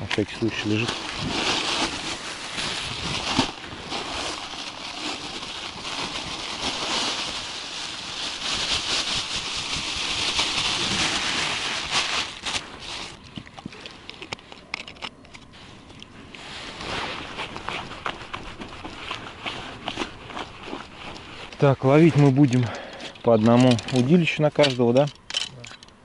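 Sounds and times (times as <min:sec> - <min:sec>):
plastic bags crinkling and rustling: 0:00.0 - 0:15.8, 0:16.4 - 0:25.6.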